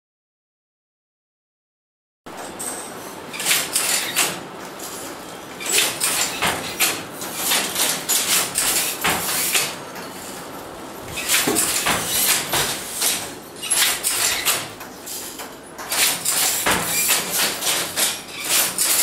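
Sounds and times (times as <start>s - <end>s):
wooden handloom clattering: 2.4s - 19.0s.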